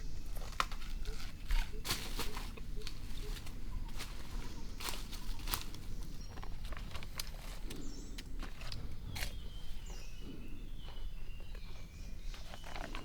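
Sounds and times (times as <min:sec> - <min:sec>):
crackling and rustling: 0:00.0 - 0:10.1, 0:10.8 - 0:13.0.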